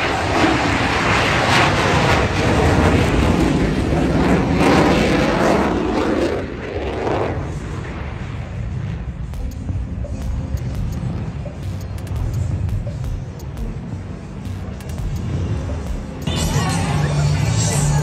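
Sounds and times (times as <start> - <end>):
jets taking off: 0.4 - 18.0.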